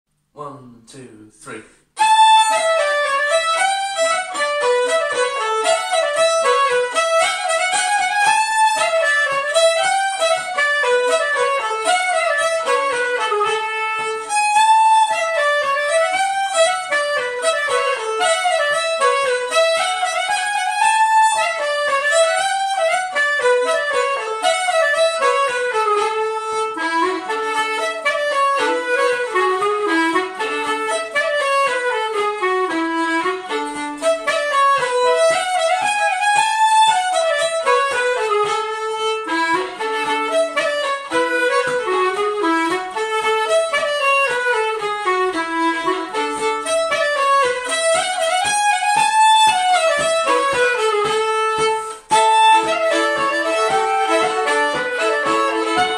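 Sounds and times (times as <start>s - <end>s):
fiddle and clarinet folk tune: 2.0s - 55.9s.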